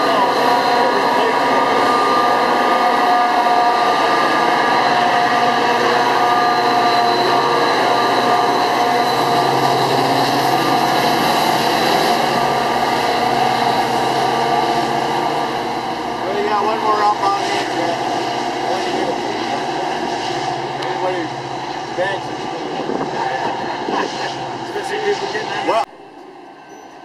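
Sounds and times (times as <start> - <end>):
diesel locomotive engine drone: 0.0 - 27.0
high steady whining tones: 0.0 - 27.0.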